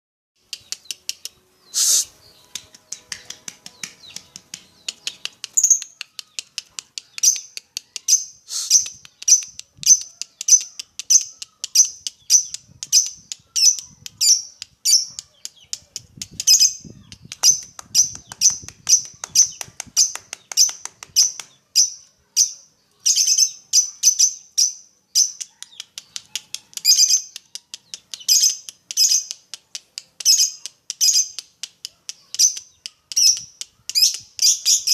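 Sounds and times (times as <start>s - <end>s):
lovebird chirping: 0.4s - 29.3s.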